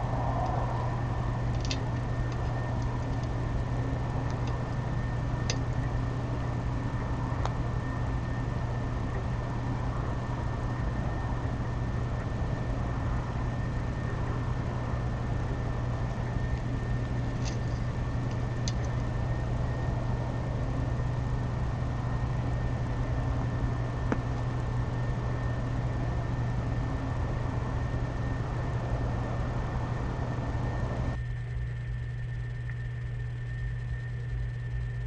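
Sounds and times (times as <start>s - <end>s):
low hum and hiss: 0.0s - 35.0s
thin high whine: 0.0s - 35.0s.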